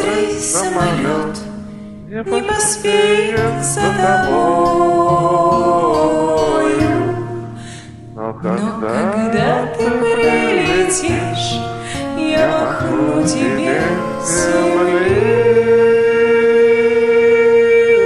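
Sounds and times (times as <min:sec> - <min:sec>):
person singing: 0:00.0 - 0:01.5, 0:02.1 - 0:07.4, 0:08.2 - 0:18.0
karaoke backing track: 0:00.0 - 0:18.0.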